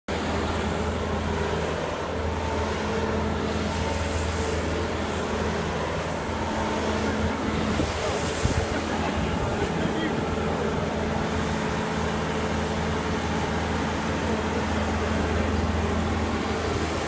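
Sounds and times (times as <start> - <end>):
diesel engine running: 0.1 - 17.0.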